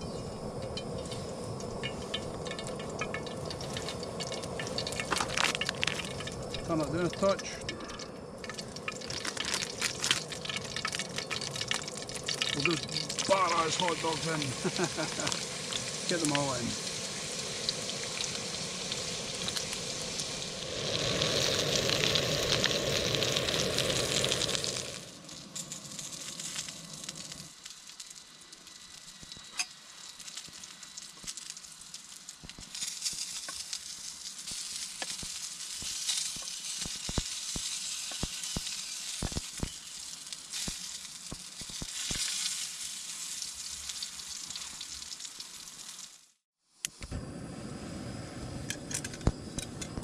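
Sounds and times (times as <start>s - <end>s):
sausages sizzling in a pan: 0.0s - 47.4s.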